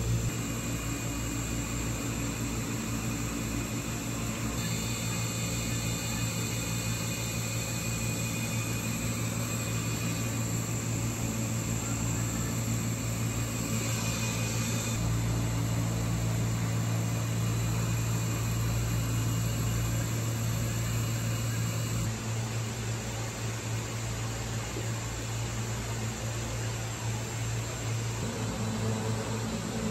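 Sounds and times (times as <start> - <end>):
machine hum with hiss: 0.0 - 29.9.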